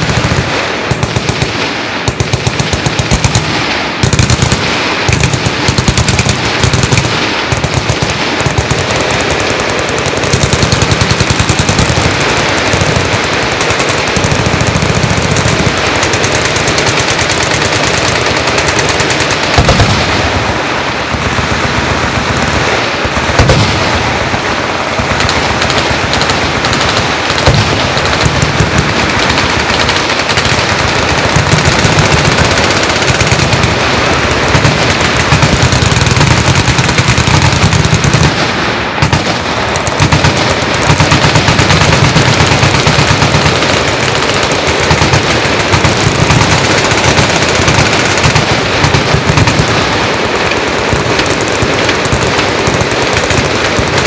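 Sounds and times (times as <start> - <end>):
loud bangs: 0.0 - 54.0
machine guns firing rapidly: 0.0 - 54.0.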